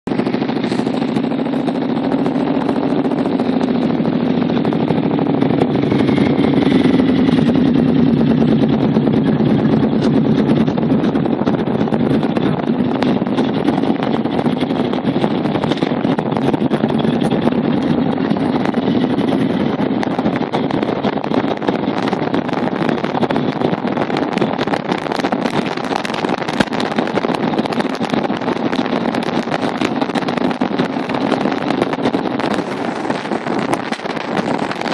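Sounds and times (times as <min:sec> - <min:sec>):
motorcycle engine running: 0:00.0 - 0:34.9
wind rushing over microphone: 0:00.0 - 0:34.9.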